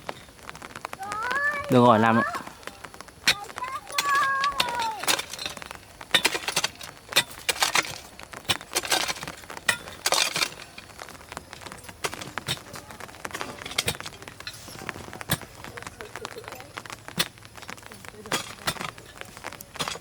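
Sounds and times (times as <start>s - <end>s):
hand tool clinking and scraping soil: 1.5s - 20.0s.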